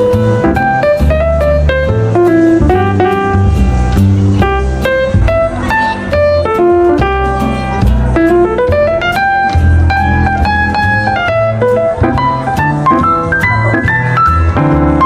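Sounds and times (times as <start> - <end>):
piano-led jazzy instrumental: 0.0 - 15.0.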